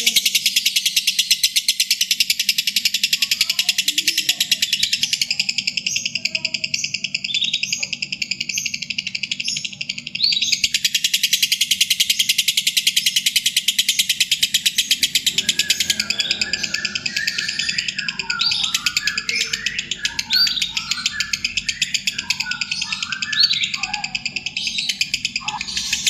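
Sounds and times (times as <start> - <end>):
bird chattering trill: 0.0 - 26.0.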